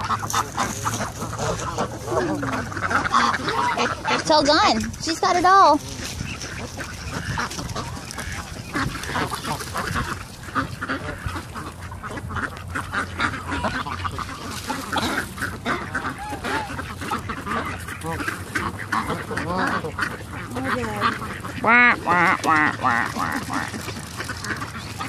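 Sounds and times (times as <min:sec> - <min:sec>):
ducks quacking: 0:00.0 - 0:25.0
geese honking: 0:00.0 - 0:25.0.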